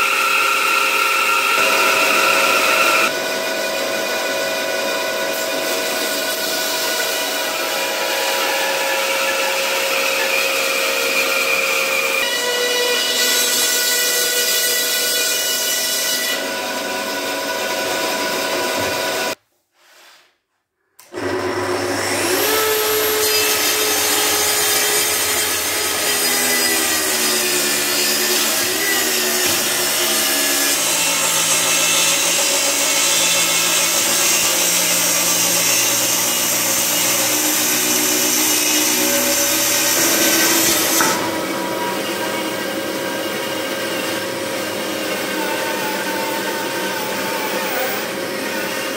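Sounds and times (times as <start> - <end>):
bandsaw cutting wood: 0.0 - 19.4, 21.1 - 48.9
electric track saw cutting: 0.0 - 19.4, 21.1 - 48.9.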